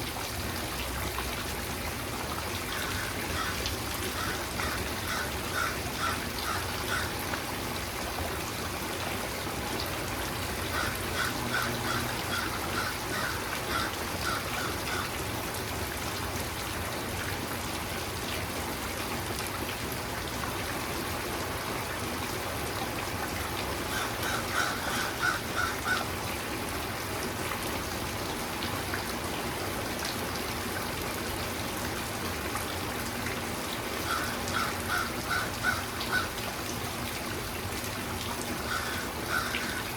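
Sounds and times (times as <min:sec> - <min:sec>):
rain falling and trickling: 0:00.0 - 0:39.9.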